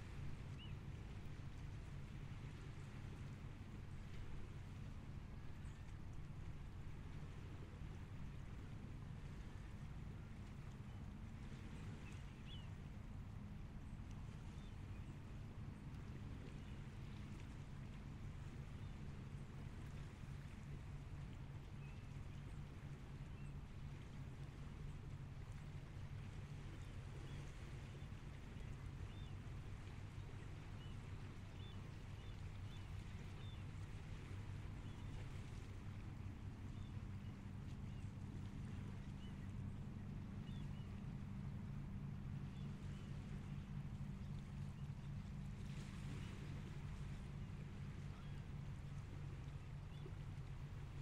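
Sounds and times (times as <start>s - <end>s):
distant engine drone: 0.0s - 51.0s.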